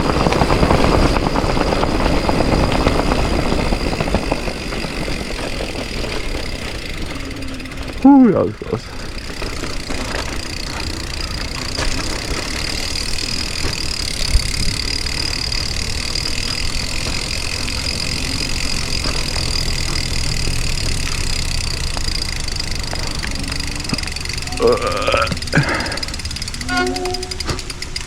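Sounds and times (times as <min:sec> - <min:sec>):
electric motor whine: 0:00.0 - 0:28.0
wind: 0:00.0 - 0:28.0.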